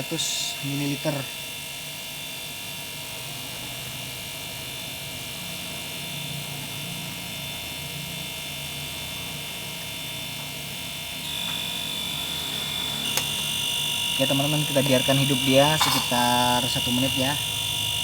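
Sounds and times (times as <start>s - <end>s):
compressor humming: 0.0s - 18.0s.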